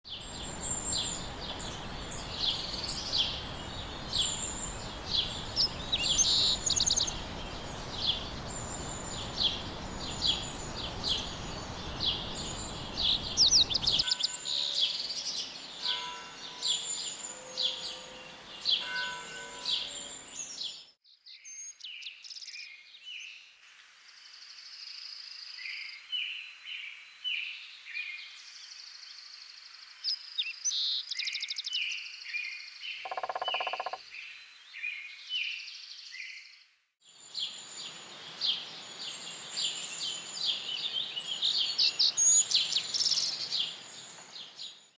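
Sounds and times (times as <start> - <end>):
birds chirping and trilling: 0.1 - 22.6, 28.6 - 36.6, 37.2 - 44.9.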